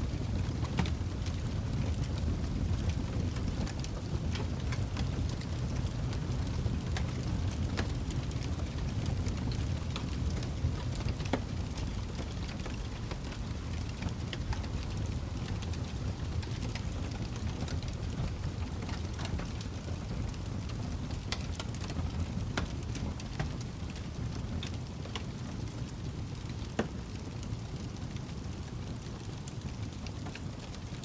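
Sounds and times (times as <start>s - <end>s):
low rumble of fire: 0.0s - 31.0s
wood fire crackling: 0.0s - 31.0s.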